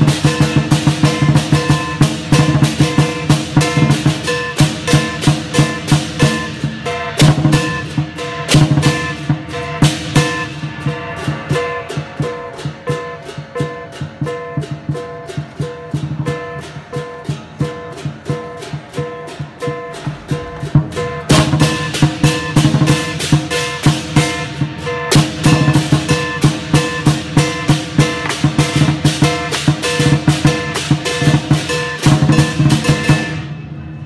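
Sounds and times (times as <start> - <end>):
heavy drum hits: 0.0 - 33.5
light percussion pulse: 0.0 - 34.0.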